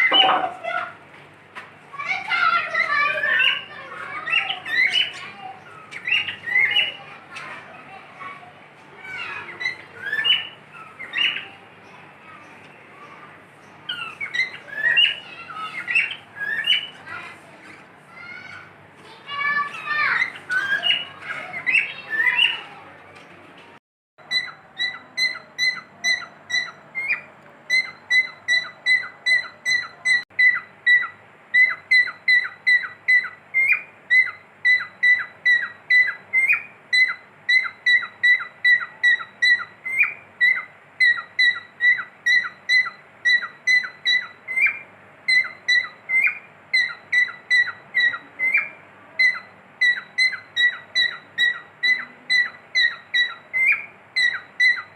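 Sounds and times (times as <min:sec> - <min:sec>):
cockatiel chirping: 0:00.0 - 0:00.7, 0:02.7 - 0:07.6, 0:09.1 - 0:11.6, 0:13.9 - 0:17.3, 0:19.6 - 0:22.7, 0:24.3 - 0:54.9.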